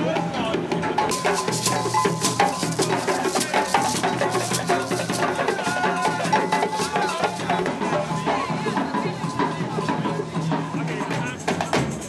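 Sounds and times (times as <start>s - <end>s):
parade band playing: 0.0s - 12.0s
rapid drum hits: 0.4s - 12.0s.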